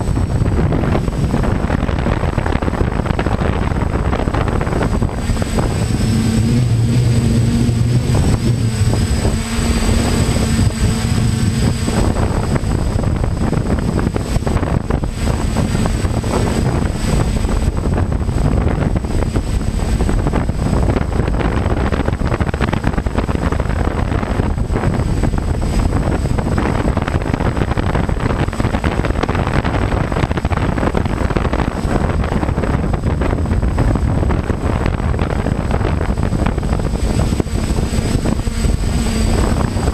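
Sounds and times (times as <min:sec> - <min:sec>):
thin high whine: 0:00.0 - 0:32.2, 0:34.4 - 0:39.9
drone rotors running: 0:00.0 - 0:39.9
low pitched hum: 0:00.0 - 0:39.9
wind buffeting: 0:00.0 - 0:39.9.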